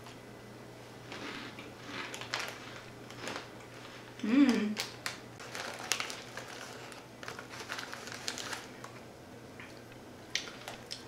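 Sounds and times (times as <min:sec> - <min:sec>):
crisps being chewed: 0:01.1 - 0:11.0.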